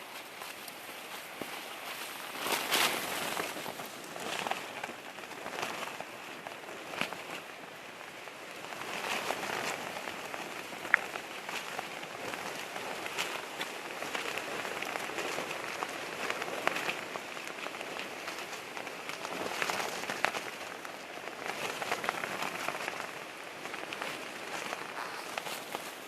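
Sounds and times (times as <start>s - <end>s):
heavy rain beating on a surface: 0.1s - 26.0s.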